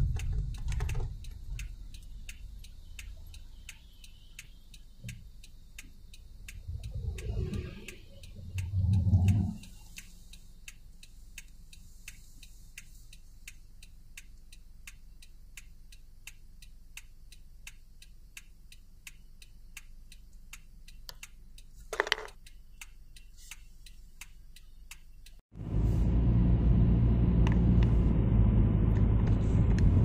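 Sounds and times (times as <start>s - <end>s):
turn signal ticking: 0.0s - 25.4s.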